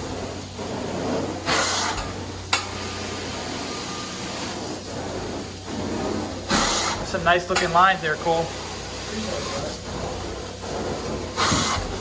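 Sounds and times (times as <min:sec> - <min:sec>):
carpet extraction wand hissing: 0:00.0 - 0:07.7, 0:08.5 - 0:12.0.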